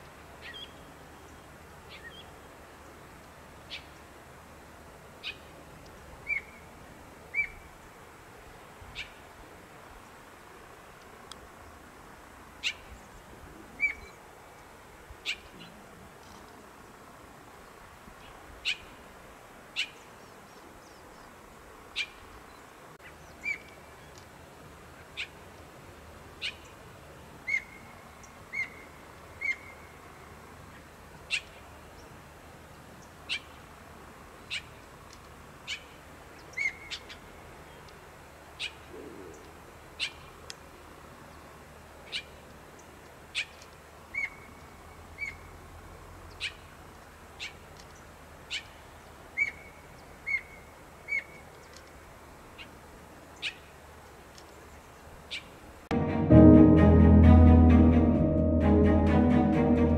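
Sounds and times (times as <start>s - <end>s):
outdoor air hiss: 0.0s - 55.9s.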